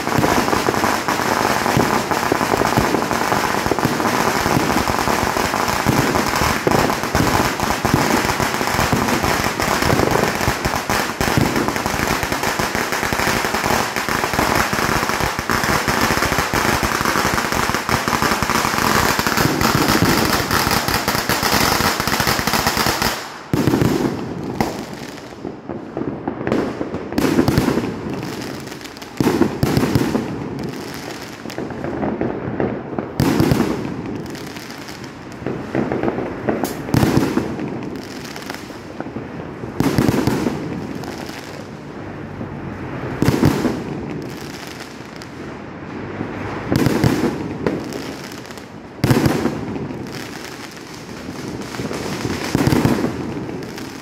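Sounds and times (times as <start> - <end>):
fireworks and firecrackers banging: 0.0 - 54.0.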